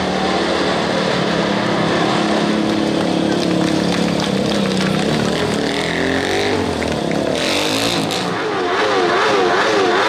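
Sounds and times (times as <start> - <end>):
quad bike engine revving: 0.0 - 10.0.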